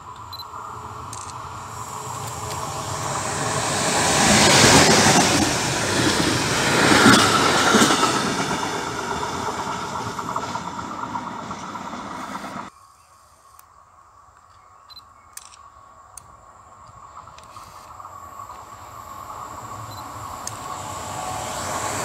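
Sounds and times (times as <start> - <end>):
electric train passing: 0.0 - 12.7, 16.4 - 22.0.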